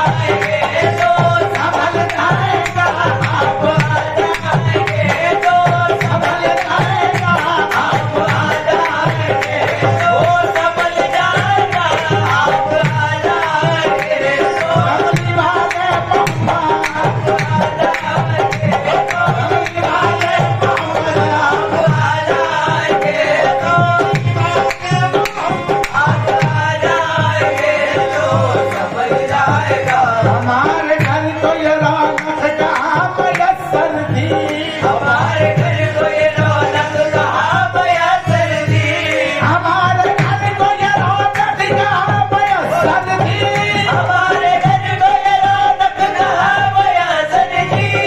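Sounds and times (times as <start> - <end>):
harmonium: 0.0 - 48.0
men singing: 0.0 - 48.0.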